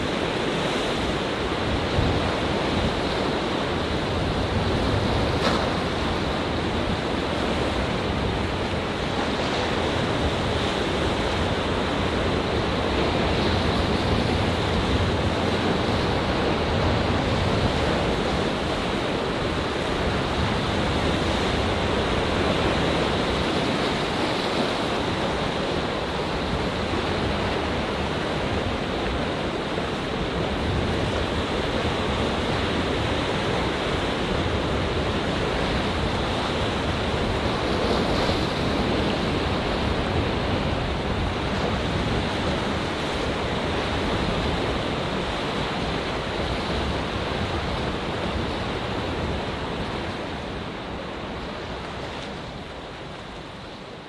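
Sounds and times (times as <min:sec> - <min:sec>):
surf churning among rocks: 0:00.0 - 0:54.0.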